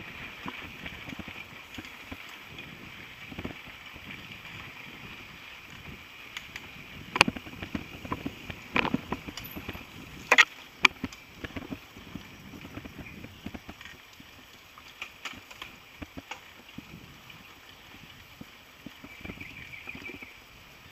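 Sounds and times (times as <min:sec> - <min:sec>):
bike rattling and knocking over bumps: 0:00.0 - 0:20.3
steady hiss of riding: 0:00.0 - 0:20.9.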